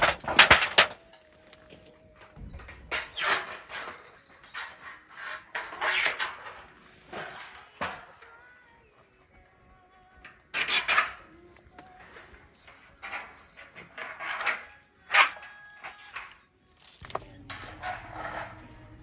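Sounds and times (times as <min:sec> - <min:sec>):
metal parts scraping and clattering: 0:00.0 - 0:08.0, 0:10.6 - 0:19.0.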